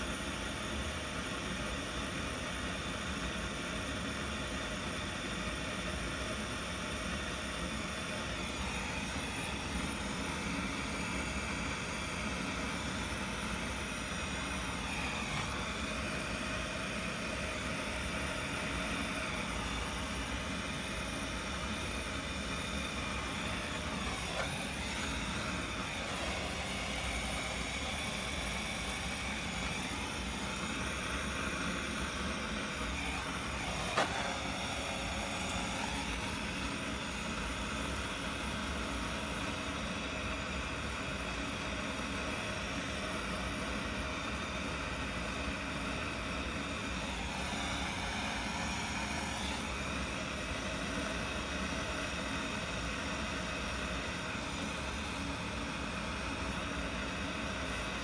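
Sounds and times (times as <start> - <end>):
gas torch hissing: 0.0 - 58.0.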